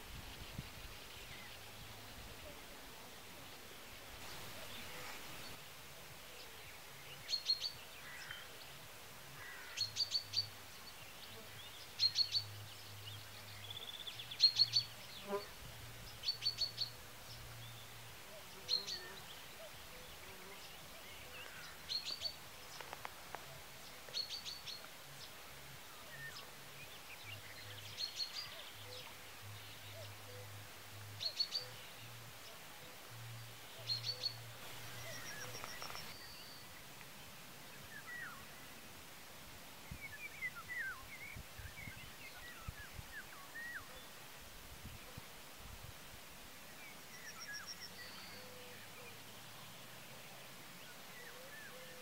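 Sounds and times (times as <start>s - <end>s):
birds chirping: 0.0s - 39.0s, 46.6s - 52.0s
faint outdoor background: 0.0s - 52.0s.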